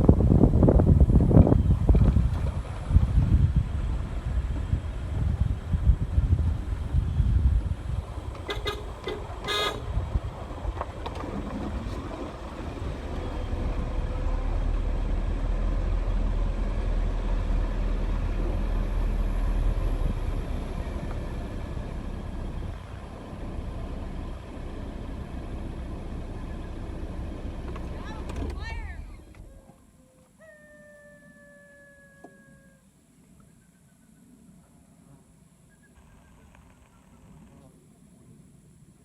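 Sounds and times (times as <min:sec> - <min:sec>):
vehicle engine rumble: 0:00.0 - 0:39.0.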